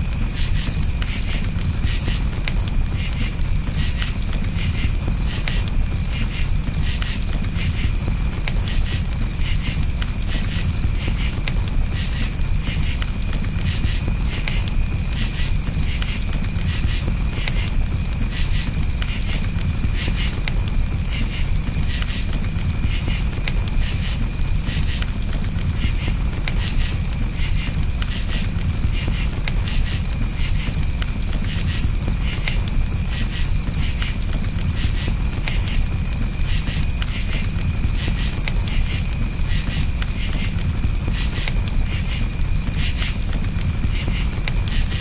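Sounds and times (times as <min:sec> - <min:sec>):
campfire crackling: 0:00.0 - 0:45.0
crickets chirping: 0:00.0 - 0:45.0.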